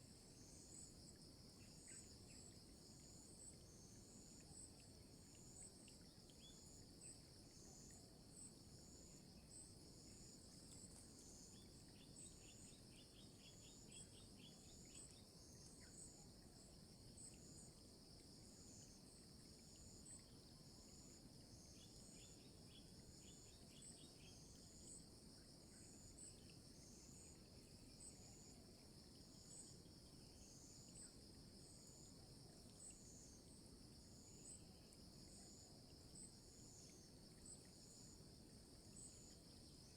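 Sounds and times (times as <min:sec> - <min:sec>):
insect chirps: 0:00.0 - 0:39.9
rapid rattling insect trills: 0:00.0 - 0:39.9.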